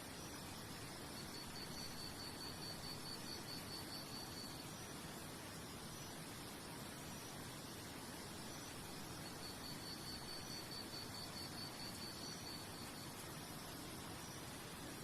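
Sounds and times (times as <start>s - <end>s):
steady nature hiss: 0.0s - 15.0s.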